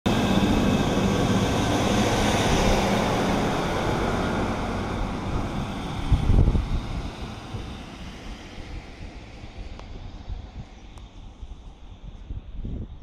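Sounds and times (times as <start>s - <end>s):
rail rumble: 0.1s - 13.0s
train engine hum: 0.1s - 13.0s.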